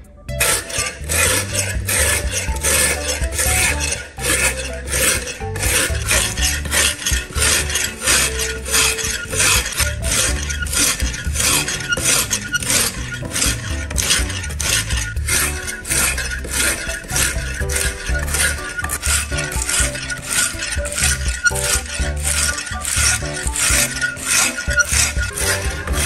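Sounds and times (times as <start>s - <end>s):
background music with bass: 0.0s - 26.0s
whetstone scraping knife blade: 0.4s - 26.0s.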